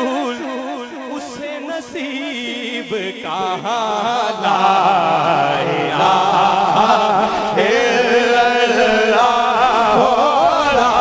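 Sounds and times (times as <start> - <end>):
men singing a hymn into microphones: 0.0 - 11.0.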